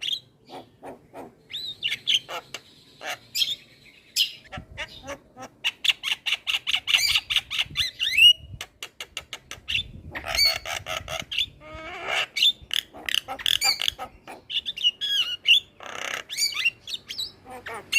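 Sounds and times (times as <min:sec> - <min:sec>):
myna bird singing: 0:00.0 - 0:17.9.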